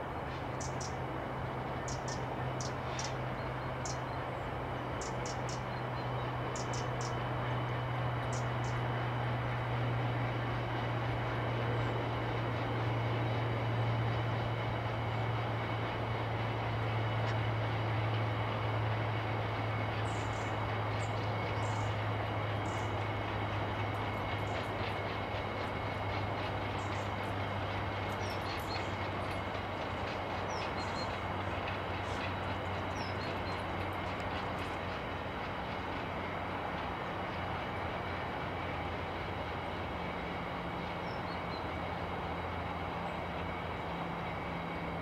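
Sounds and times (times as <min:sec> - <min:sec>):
freight train rolling rumble: 0:00.0 - 0:45.0.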